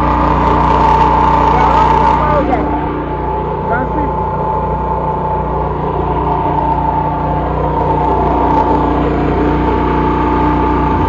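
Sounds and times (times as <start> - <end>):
generator whine: 0.0 - 11.0
small generator engine hum: 0.0 - 11.0.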